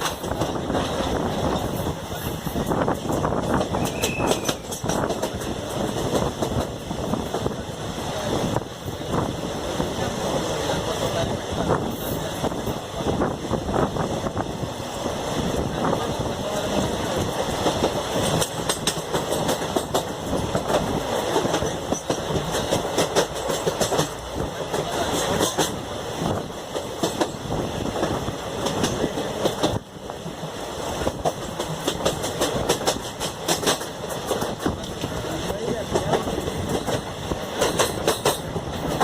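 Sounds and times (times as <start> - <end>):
train wheels clattering over rails: 0.0 - 39.0.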